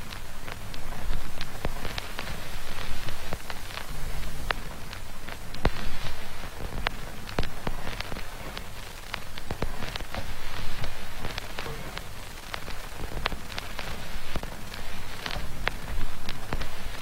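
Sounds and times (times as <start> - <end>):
sharp crackles and clicks: 0.0 - 17.0
steady hiss: 0.0 - 17.0.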